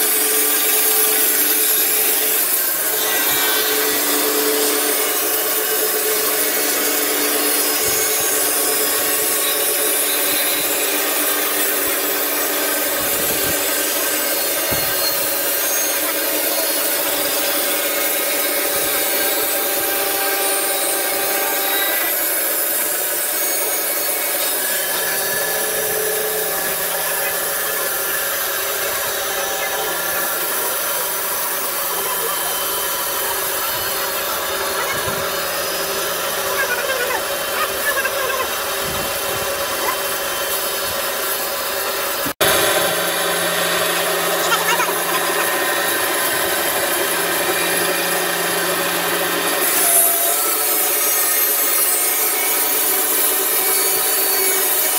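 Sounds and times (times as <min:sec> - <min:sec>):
band saw cutting wood: 0:00.0 - 0:54.9.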